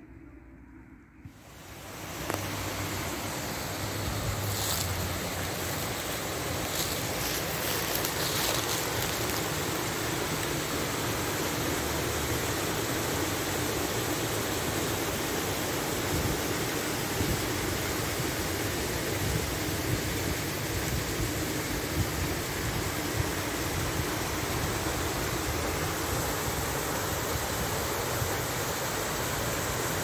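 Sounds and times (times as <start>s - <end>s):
water rushing over a weir: 1.3s - 30.0s.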